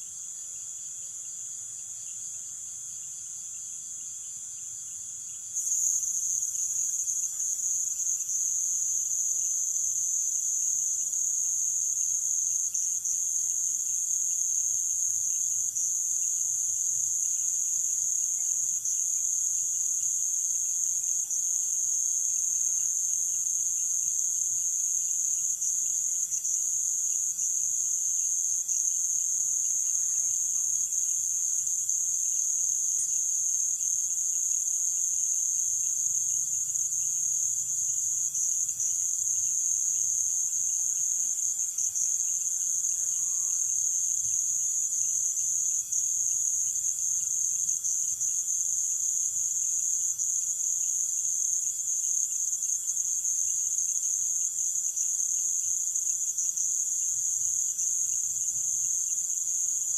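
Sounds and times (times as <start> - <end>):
low steady insect whine: 0.0 - 59.9.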